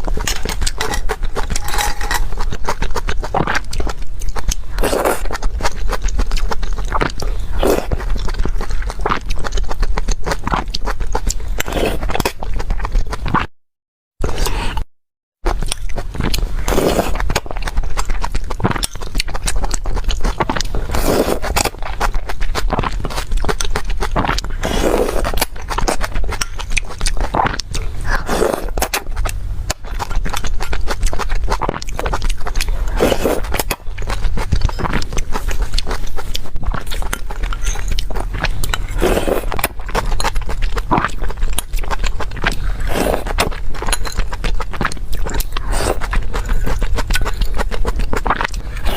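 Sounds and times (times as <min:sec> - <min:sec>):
chewing with crackles: 0:00.0 - 0:13.5, 0:15.5 - 0:48.9.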